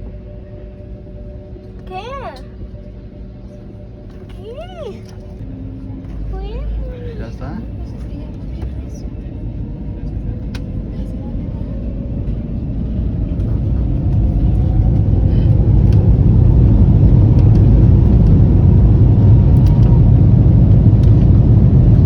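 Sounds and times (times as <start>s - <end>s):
airliner engines rumbling: 0.0s - 22.0s.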